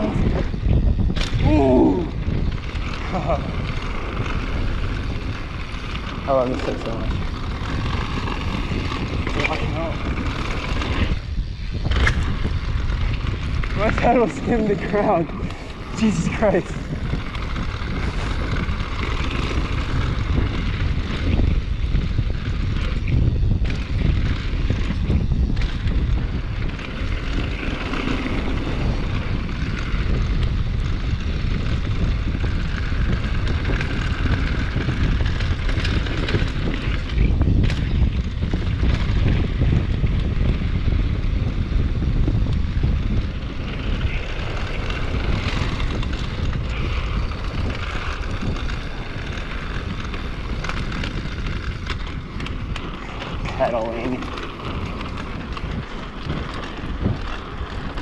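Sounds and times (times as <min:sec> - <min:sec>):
bike tyres on dirt: 0:00.0 - 0:58.0
wind rumble: 0:00.0 - 0:58.0.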